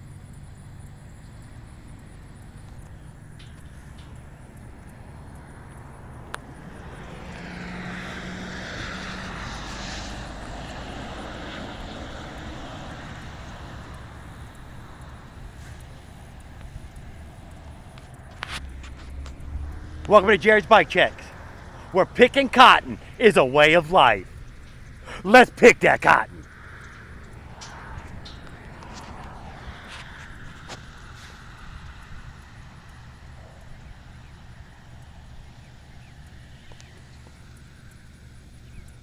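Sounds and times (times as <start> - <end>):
motor vehicle passing: 1.6 - 39.0.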